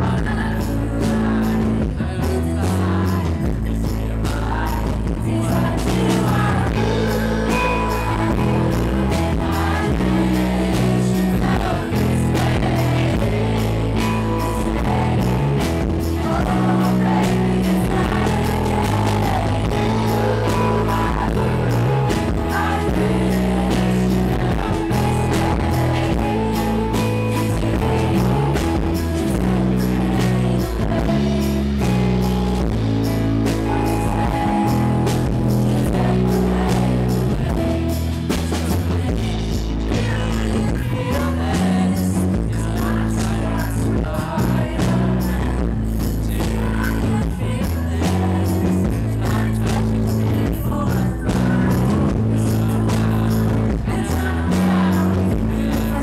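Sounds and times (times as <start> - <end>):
rock band playing: 0.0 - 56.0
woman singing into a microphone: 0.0 - 56.0.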